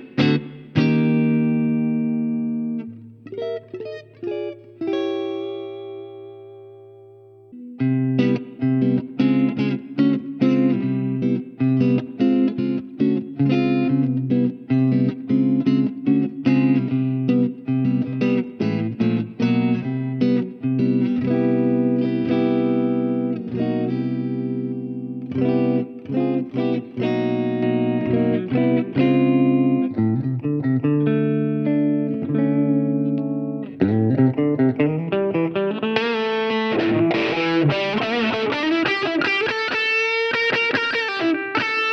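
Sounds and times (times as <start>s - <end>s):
electric guitar through amp: 0.0s - 41.9s.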